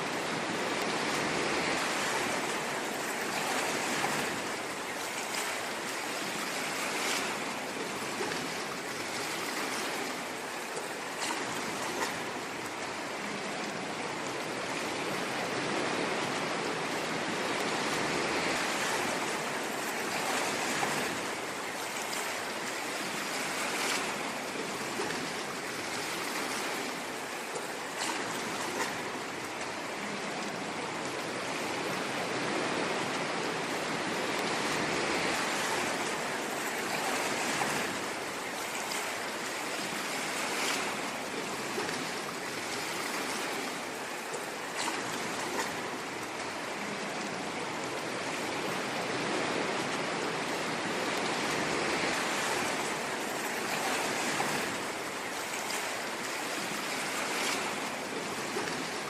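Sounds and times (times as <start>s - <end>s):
ocean waves on a shore: 0.0s - 59.0s.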